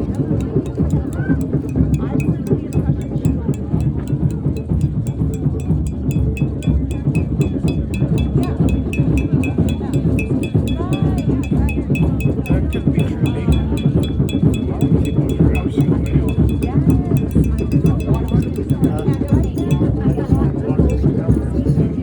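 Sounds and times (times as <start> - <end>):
sharp metallic tick: 0.0 - 21.2
hand drums playing: 0.0 - 22.0.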